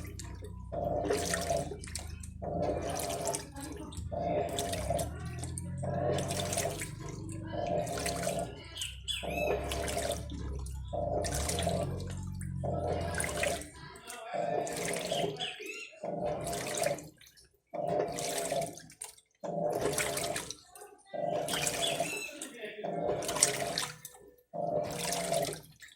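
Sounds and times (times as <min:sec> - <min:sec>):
washing machine motor whine: 0:00.0 - 0:25.9
washing machine water sloshing: 0:00.0 - 0:25.9.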